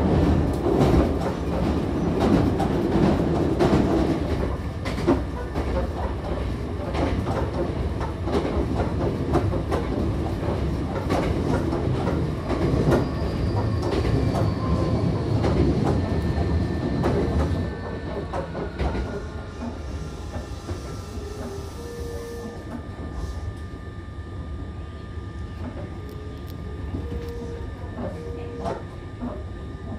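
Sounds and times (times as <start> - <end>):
train low rumble: 0.0 - 29.9.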